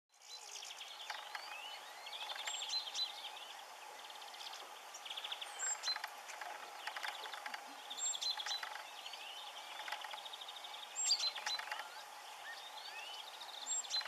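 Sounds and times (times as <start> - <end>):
songbirds chirping and trilling: 0.1 - 14.0.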